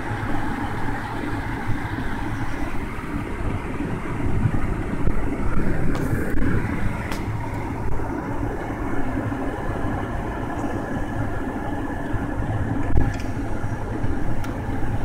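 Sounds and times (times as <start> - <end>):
car cabin road noise: 0.0 - 15.0.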